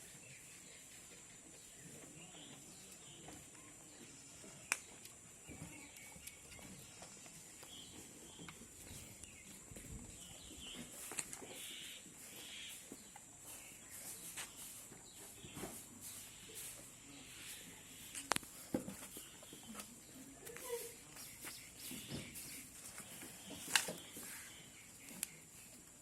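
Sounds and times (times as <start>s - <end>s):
faint animal and bird calls: 0.0s - 26.0s.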